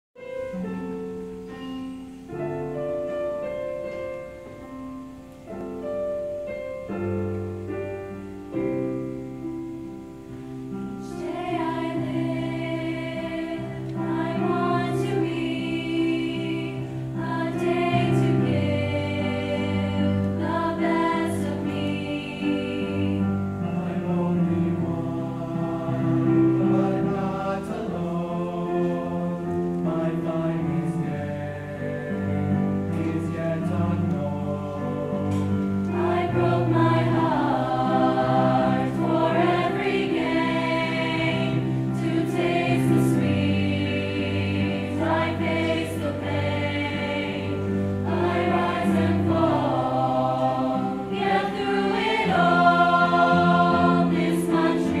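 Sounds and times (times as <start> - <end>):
mixed choir singing: 10.7 - 55.0.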